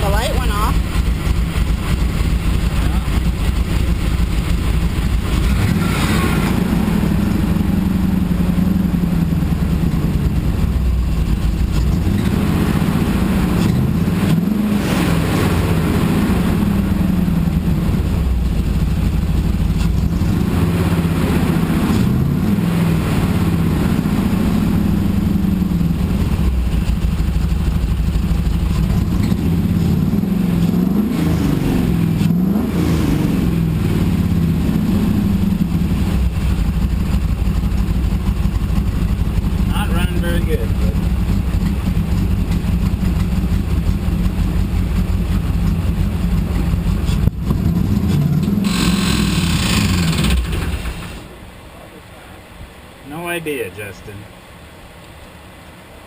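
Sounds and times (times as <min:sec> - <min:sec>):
car engine running unevenly: 0:00.0 - 0:54.2.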